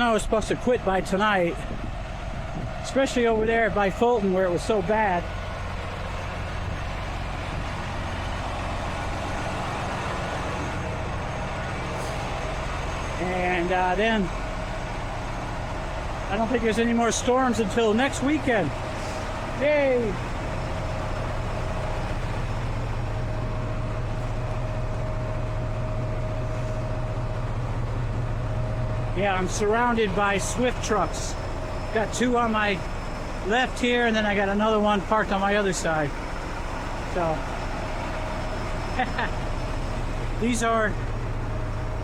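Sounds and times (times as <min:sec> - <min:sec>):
truck engine idling: 0:00.0 - 0:42.0
thin steady whine: 0:06.2 - 0:42.0.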